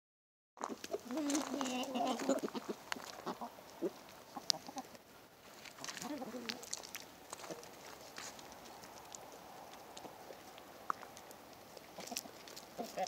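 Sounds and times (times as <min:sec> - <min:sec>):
chickens clucking: 0:00.6 - 0:05.0, 0:05.7 - 0:13.0.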